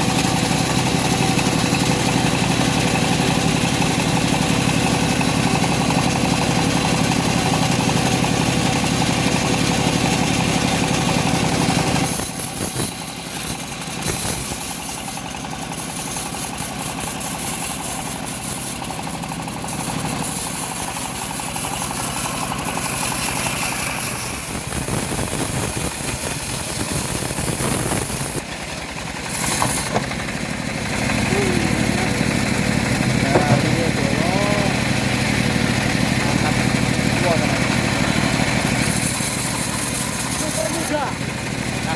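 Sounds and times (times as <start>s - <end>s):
bandsaw mill engine running: 0.0s - 41.9s.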